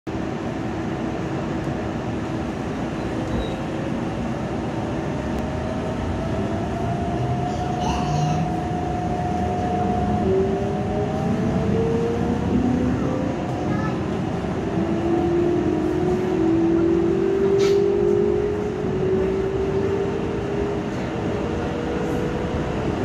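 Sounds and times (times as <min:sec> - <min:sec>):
train running gear rumble: 0:00.1 - 0:23.0.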